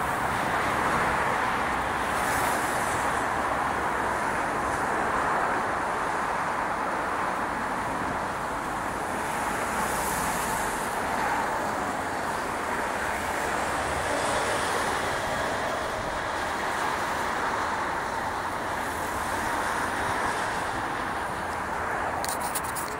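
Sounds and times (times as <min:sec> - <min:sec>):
road traffic: 0:00.0 - 0:22.9.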